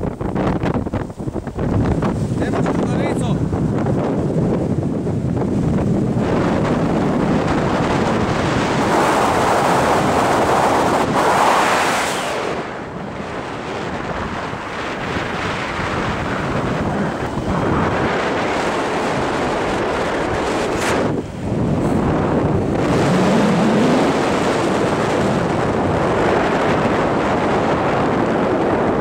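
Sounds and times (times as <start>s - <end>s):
gusting wind buffeting microphone: 0.0s - 29.0s.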